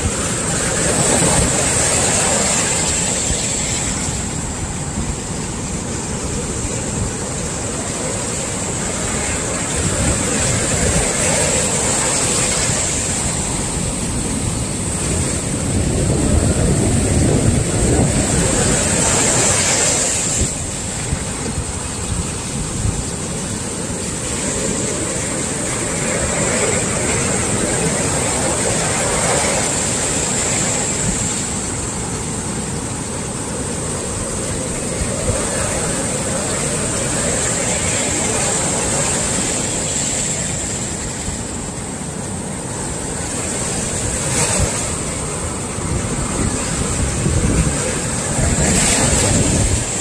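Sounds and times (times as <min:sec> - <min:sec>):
waves breaking on shore: 0:00.0 - 0:50.0.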